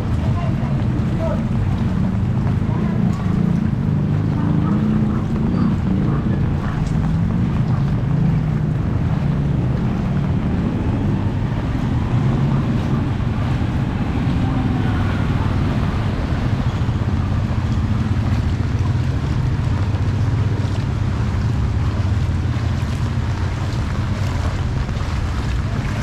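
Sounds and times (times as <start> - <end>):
heavy rain: 0.0 - 26.0
wind buffeting microphone: 0.0 - 26.0.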